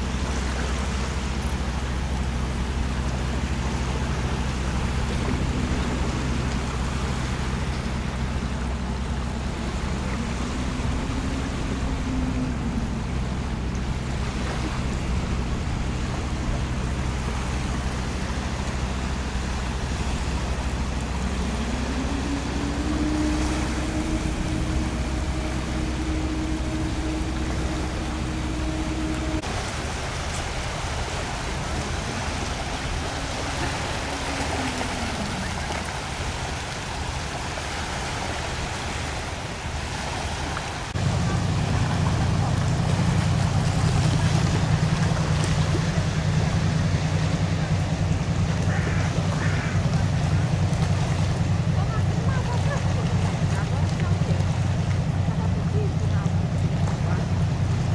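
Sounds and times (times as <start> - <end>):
boat engine low hum: 0.0 - 57.9
higher engine tone: 0.0 - 57.9
ship engine hum: 0.0 - 57.9
waves washing on shore: 0.0 - 57.9
wind: 0.0 - 57.9.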